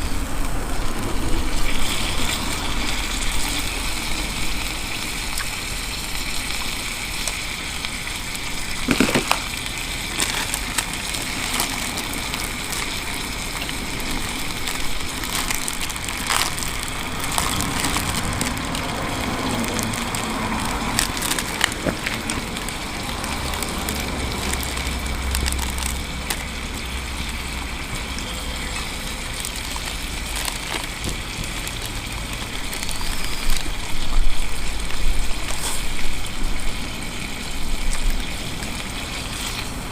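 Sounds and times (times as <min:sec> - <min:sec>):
steady watery hiss: 0:00.0 - 0:39.9
wood fire crackling: 0:00.0 - 0:39.9.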